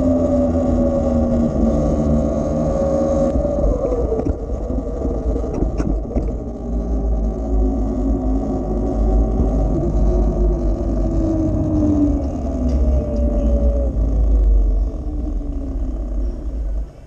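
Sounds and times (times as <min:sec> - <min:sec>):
electric dirt bike motor whine: 0:00.0 - 0:17.0
wind rumble on microphone: 0:00.0 - 0:17.0.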